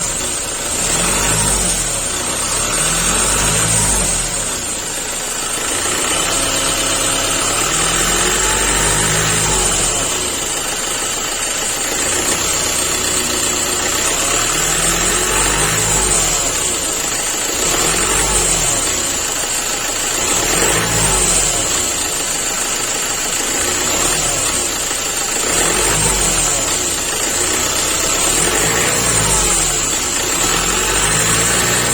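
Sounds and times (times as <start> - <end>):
engine idling and revving: 0.0 - 31.9.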